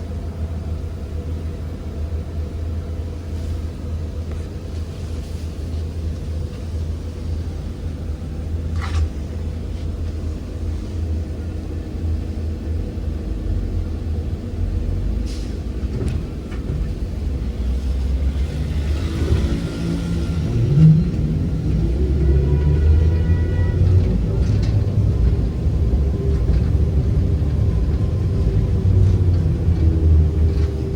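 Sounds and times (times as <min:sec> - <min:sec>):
trolleybus rumble: 0:00.0 - 0:30.9.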